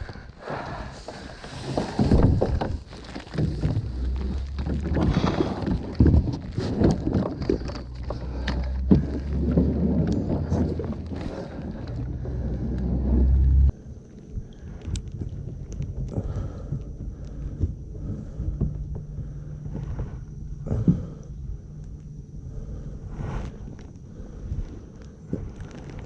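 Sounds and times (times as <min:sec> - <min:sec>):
wind rumbling on microphone: 0:00.9 - 0:26.0.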